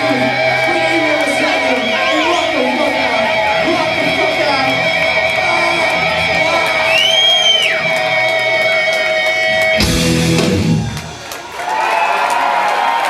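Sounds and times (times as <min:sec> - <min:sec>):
rock music with electric guitar: 0:00.0 - 0:11.4.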